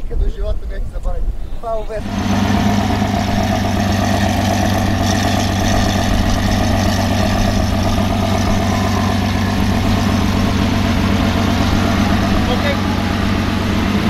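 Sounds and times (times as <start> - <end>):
sports car engine idling: 2.0 - 14.0.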